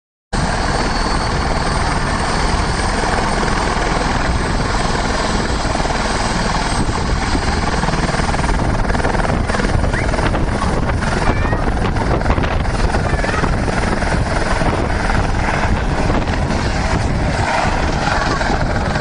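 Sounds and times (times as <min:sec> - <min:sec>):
helicopter engine and rotor: 0:00.4 - 0:19.0.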